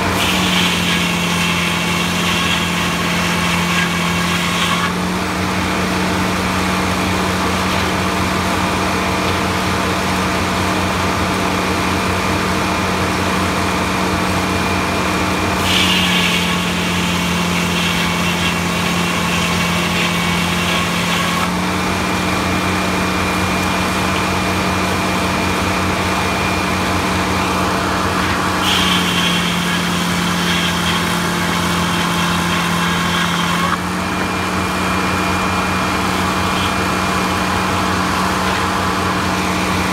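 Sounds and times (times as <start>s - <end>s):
sawmill blade cutting log: 0.0s - 39.9s.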